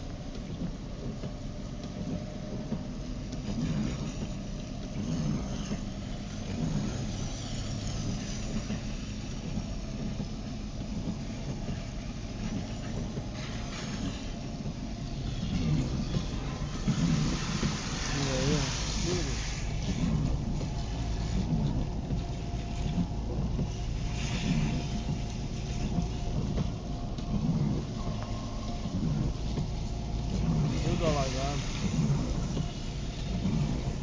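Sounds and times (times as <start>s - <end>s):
car engine and tyre noise: 0.0s - 34.0s.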